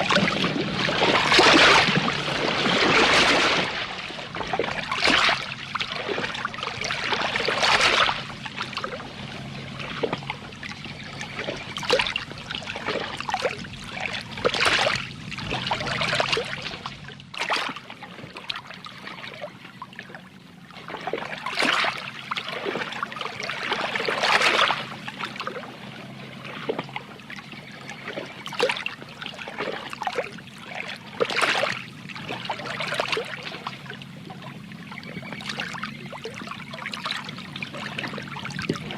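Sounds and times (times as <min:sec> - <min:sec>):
low steady hum: 0:00.0 - 0:38.9
water sloshing and trickling: 0:00.0 - 0:38.9.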